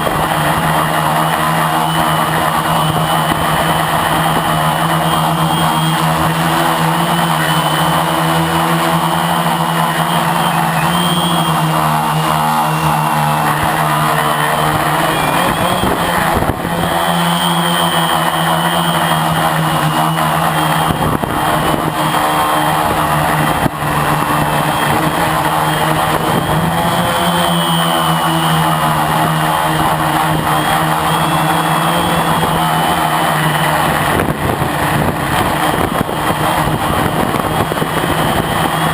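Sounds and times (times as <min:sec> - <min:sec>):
quadcopter propellers droning: 0:00.0 - 0:38.9.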